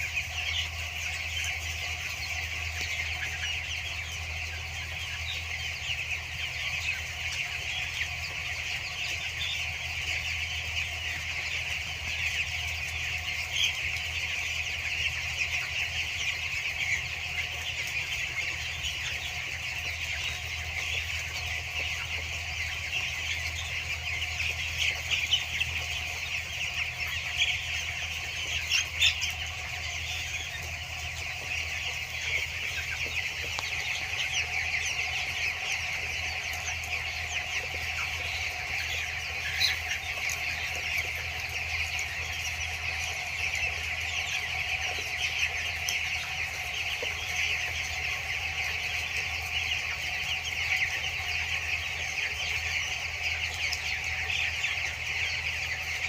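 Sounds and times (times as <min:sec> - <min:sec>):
chicks chirping and peeping: 0:00.0 - 0:56.0.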